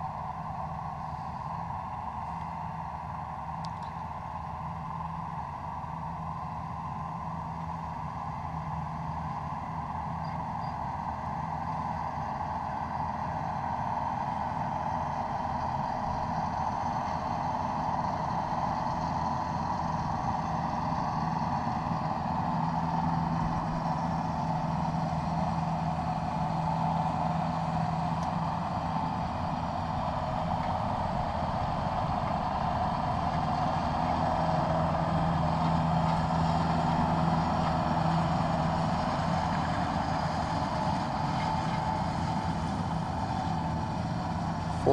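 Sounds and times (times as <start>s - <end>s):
engine humming steadily: 0.0s - 44.9s.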